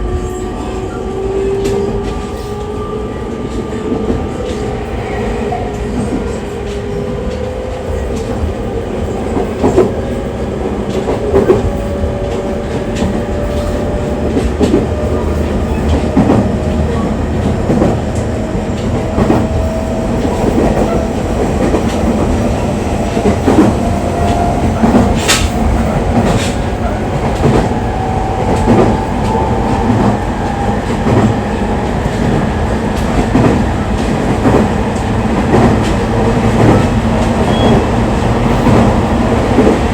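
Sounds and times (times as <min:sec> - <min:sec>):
train rumble: 0:00.0 - 0:39.9.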